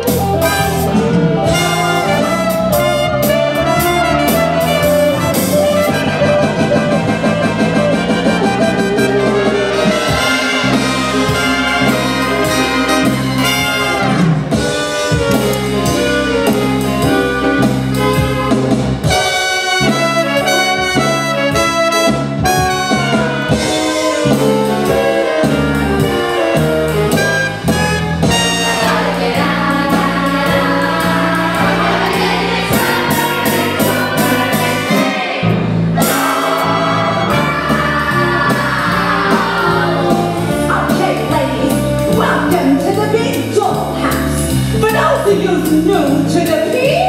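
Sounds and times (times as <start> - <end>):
brass section: 0.0 - 42.5
orchestra playing rhythm and blues: 0.0 - 47.0.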